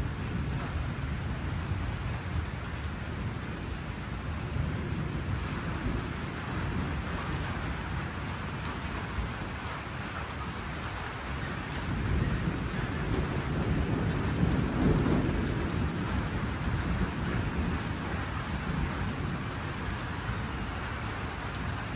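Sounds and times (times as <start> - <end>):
steady rain: 0.0 - 21.9
thunder rumbling: 0.0 - 21.9.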